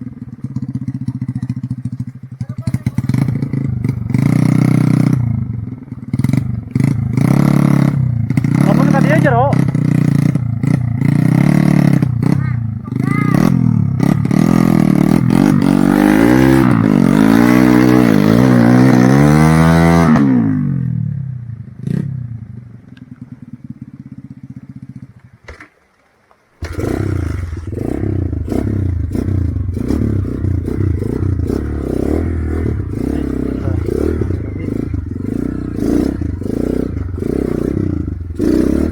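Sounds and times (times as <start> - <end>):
motorcycle engine revving and idling: 0.0 - 25.7, 26.6 - 38.9.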